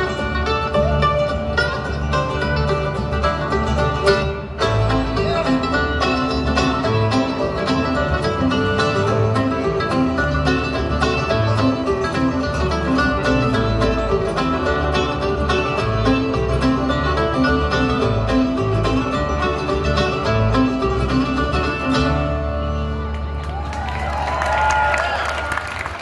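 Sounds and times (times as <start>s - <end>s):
bluegrass band playing: 0.0s - 25.9s.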